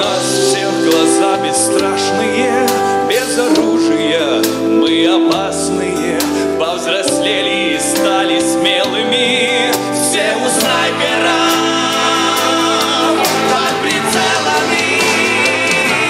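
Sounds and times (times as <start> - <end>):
instrumental backing: 0.0 - 16.0
men singing together: 0.0 - 16.0.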